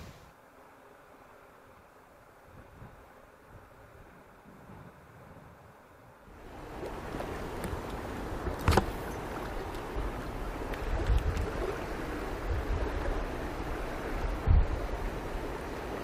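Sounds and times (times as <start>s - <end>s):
river water running over stones: 0.0s - 16.0s.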